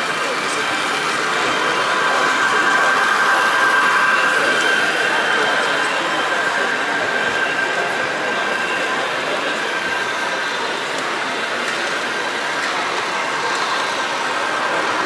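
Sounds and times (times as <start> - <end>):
exhibition hall crowd noise: 0.0 - 15.0
model trains running: 0.0 - 15.0
faint steady whine: 0.1 - 15.0.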